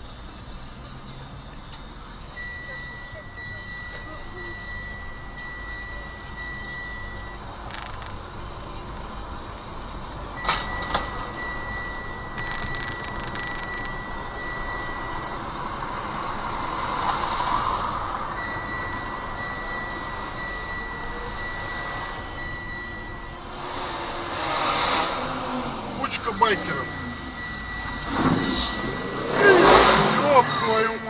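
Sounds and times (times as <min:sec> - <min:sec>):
car road and engine noise: 0:00.0 - 0:31.0
high-pitched electronic beep: 0:01.5 - 0:08.3, 0:10.2 - 0:16.8, 0:18.2 - 0:31.0.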